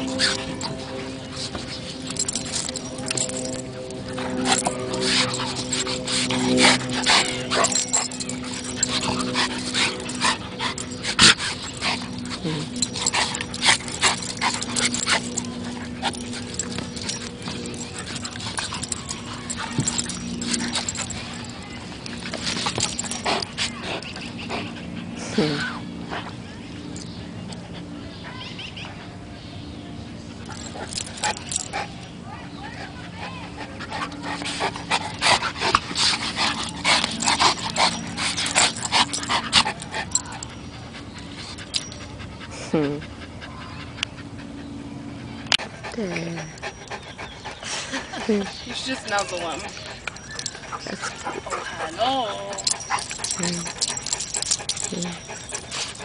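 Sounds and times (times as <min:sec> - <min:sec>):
dogs growling while wrestling: 0:00.0 - 0:27.8, 0:30.3 - 0:32.0, 0:33.0 - 0:43.2, 0:43.9 - 0:56.0
steady low hum: 0:00.0 - 0:56.0.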